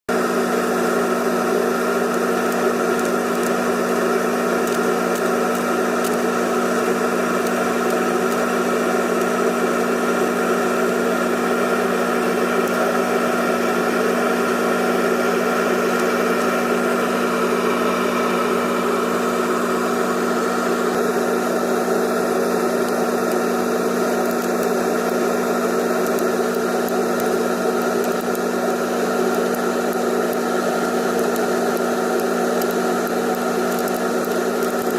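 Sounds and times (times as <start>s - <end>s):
electric motor humming and whining: 0.1s - 34.9s.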